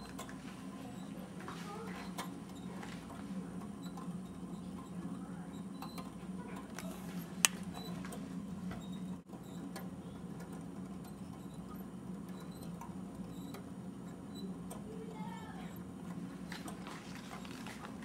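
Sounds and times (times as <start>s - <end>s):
kinetic clock humming: 0.0s - 18.0s.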